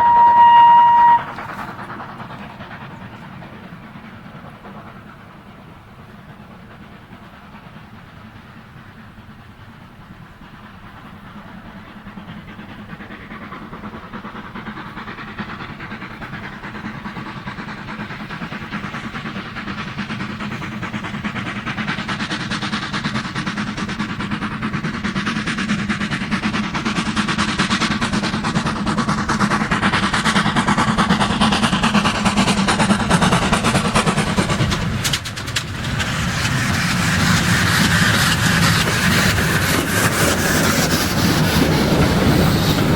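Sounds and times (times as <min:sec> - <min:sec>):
train approaching: 0:00.0 - 0:42.9.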